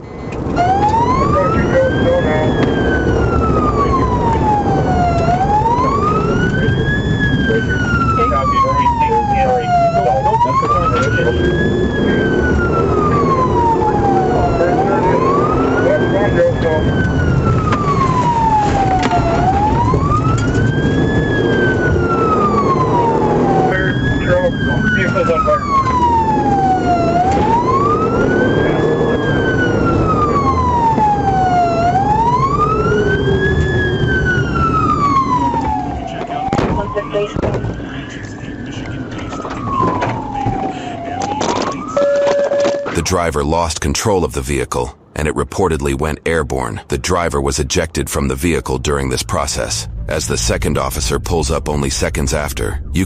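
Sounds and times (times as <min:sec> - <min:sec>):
low rumble of moving car: 0:00.0 - 0:42.0, 0:42.8 - 0:53.0
police siren wailing: 0:00.0 - 0:43.9, 0:45.8 - 0:53.0
road and engine noise: 0:00.0 - 0:53.0.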